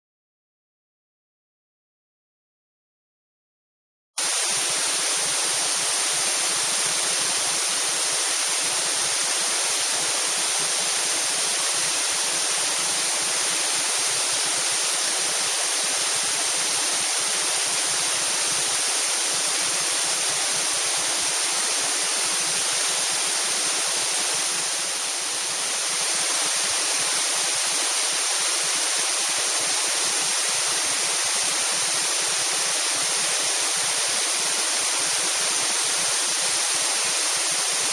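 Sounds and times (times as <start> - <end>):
waterfall hissing: 4.2 - 37.9.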